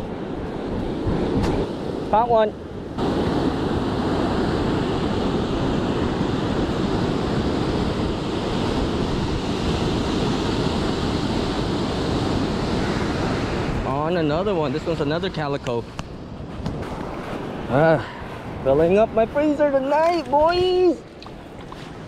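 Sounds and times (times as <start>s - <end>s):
ocean surf breaking: 0.0s - 22.0s
wind rumbling on microphone: 0.0s - 22.0s.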